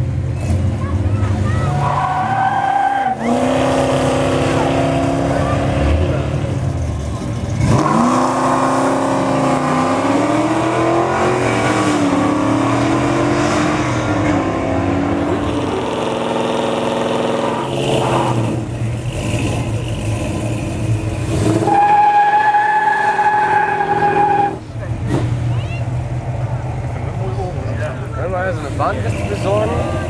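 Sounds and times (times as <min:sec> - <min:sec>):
car engine accelerating hard: 0:00.2 - 0:30.0.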